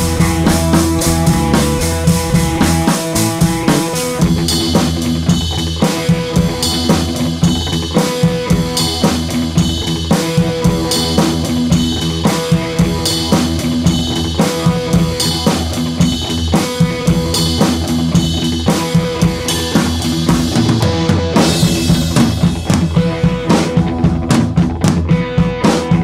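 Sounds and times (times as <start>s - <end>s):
drum kit beat: 0.0s - 26.0s.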